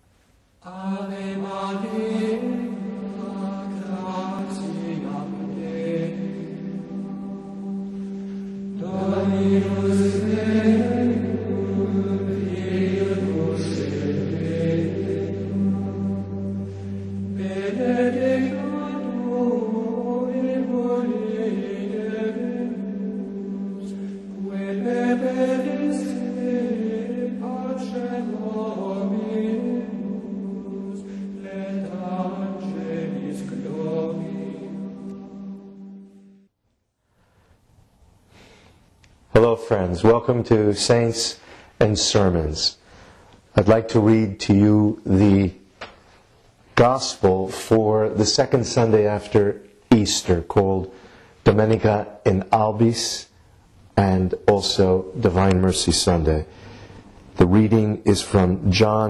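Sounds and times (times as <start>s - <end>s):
chanted vocal music: 0.6s - 36.5s, 39.3s - 53.4s, 54.0s - 59.0s.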